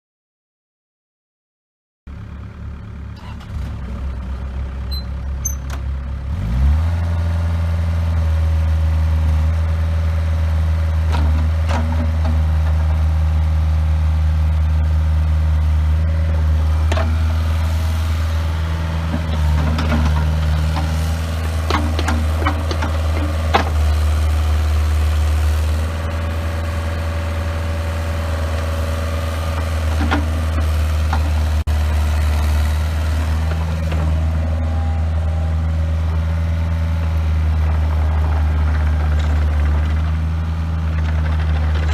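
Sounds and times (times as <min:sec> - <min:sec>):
excavator diesel engine revving: 0:02.1 - 0:41.9.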